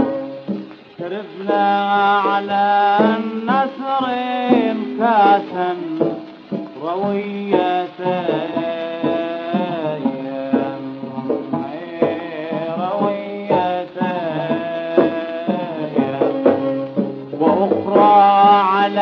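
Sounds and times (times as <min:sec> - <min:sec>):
bending sung melody: 0:00.0 - 0:19.0
hand-drum strokes: 0:00.0 - 0:19.0.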